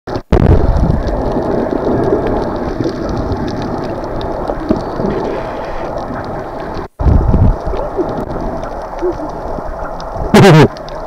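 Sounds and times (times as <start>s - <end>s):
strong wind: 0.3s - 10.7s
wind gusts rumbling on microphone: 0.3s - 10.8s.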